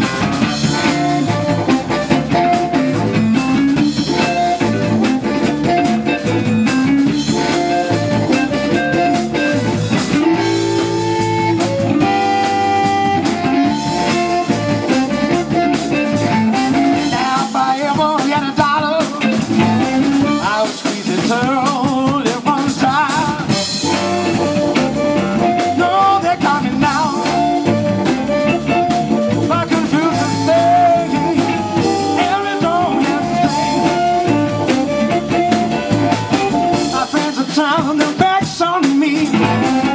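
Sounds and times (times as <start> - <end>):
amplified harmonica: 0.0 - 18.4, 23.5 - 37.4
blues band playing: 0.0 - 39.9.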